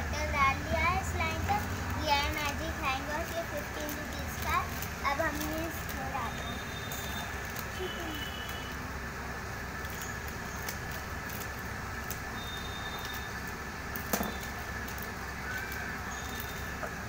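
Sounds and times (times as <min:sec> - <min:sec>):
noisy background hum: 0:00.0 - 0:17.0
plastic crinkling: 0:00.7 - 0:17.0
scissors cutting plastic sachet: 0:01.2 - 0:08.7, 0:09.8 - 0:16.8.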